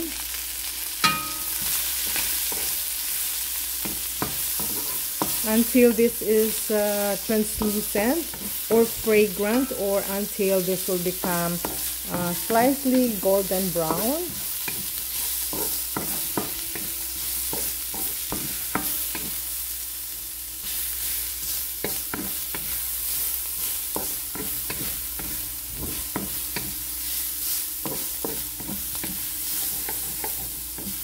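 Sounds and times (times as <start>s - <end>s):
onions and garlic sizzling in oil: 0.0s - 31.0s
wooden spatula scraping a pan: 3.8s - 19.4s, 20.6s - 31.0s.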